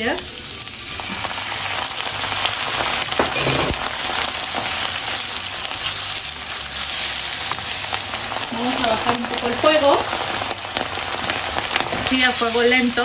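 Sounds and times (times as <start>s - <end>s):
sauce sizzling in hot oil: 0.0s - 13.0s.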